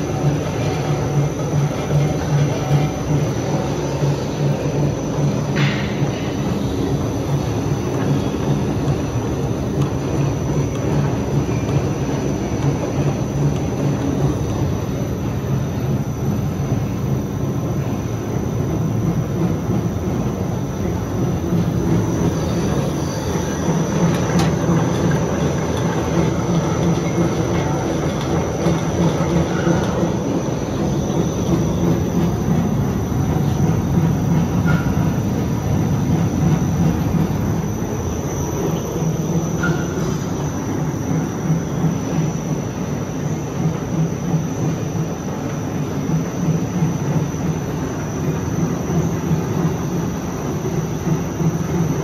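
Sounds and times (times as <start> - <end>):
printing press mechanical hum: 0.0 - 52.0.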